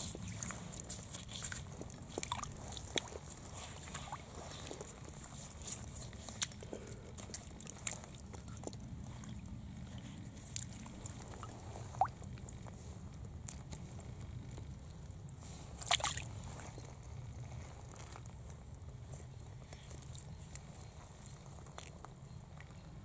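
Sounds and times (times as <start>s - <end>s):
stream water trickling: 0.0s - 22.9s.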